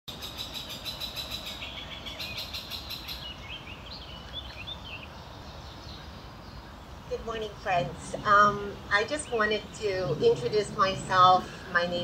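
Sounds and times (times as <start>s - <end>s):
songbirds singing: 0.1s - 12.0s.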